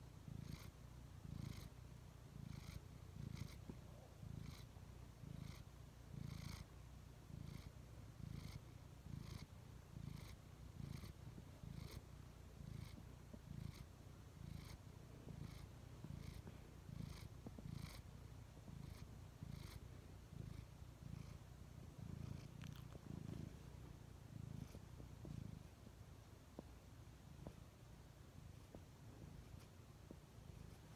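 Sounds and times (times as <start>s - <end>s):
cat purring: 0.0s - 30.9s.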